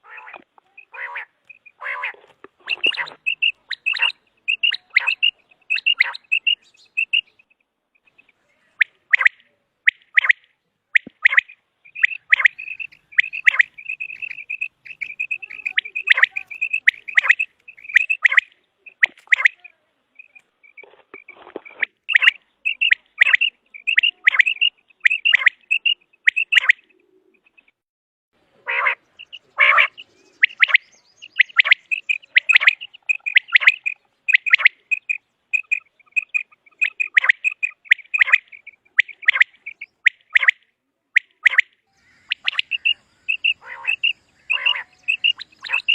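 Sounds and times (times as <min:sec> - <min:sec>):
quail calling: 0:00.0 - 0:07.4, 0:08.0 - 0:27.6, 0:28.5 - 0:40.6, 0:41.2 - 0:45.9.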